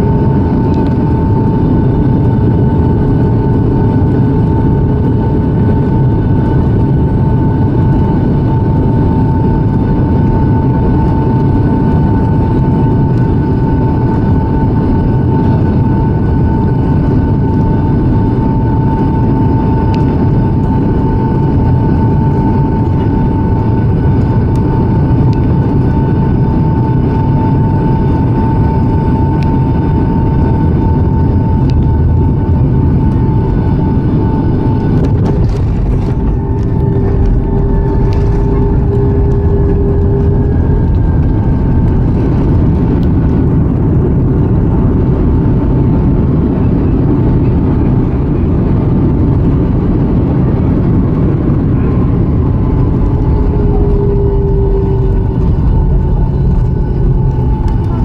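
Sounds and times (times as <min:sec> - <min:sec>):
airliner engines rumbling: 0:00.0 - 0:58.0
high whine: 0:00.0 - 0:58.0.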